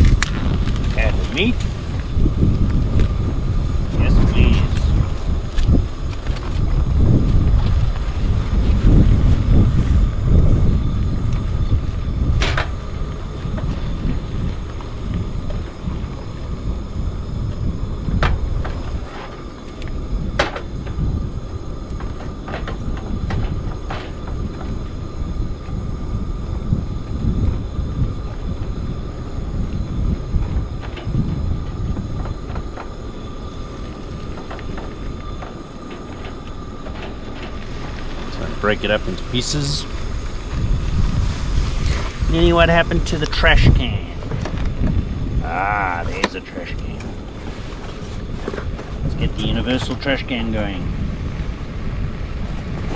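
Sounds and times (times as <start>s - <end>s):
faint steady tone: 0.0s - 52.9s
wind buffeting microphone: 0.0s - 52.9s.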